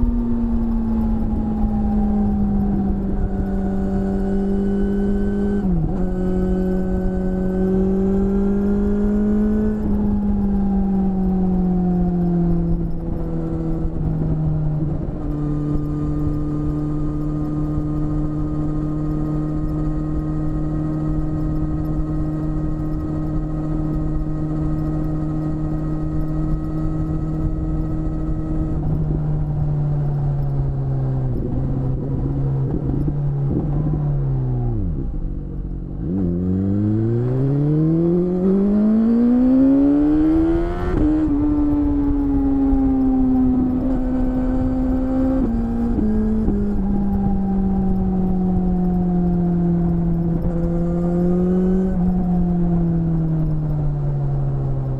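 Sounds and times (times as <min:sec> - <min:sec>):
engine blips on downshifts: 0:00.0 - 0:54.9
motorcycle engine cruising: 0:00.0 - 0:54.9.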